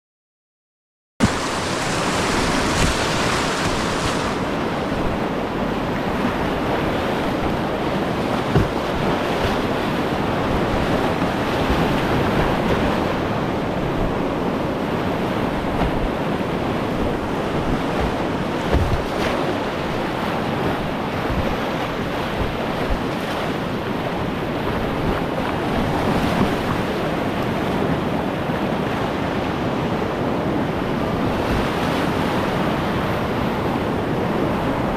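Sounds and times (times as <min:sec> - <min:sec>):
river rapids roaring: 0:01.2 - 0:34.9.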